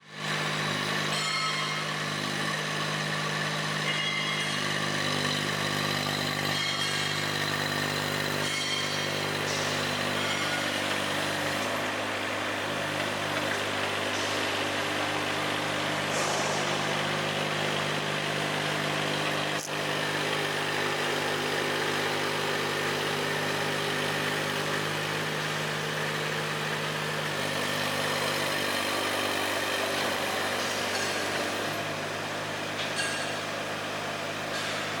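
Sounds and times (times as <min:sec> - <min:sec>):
small diesel engine running: 0:00.0 - 0:35.0.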